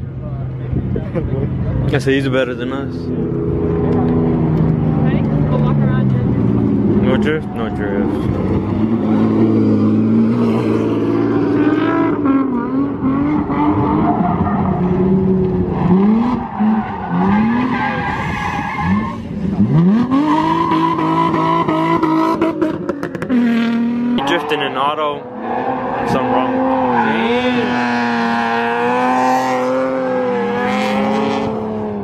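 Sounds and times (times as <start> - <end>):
car engine revving: 0.3 - 32.0
tires squealing: 2.0 - 32.0.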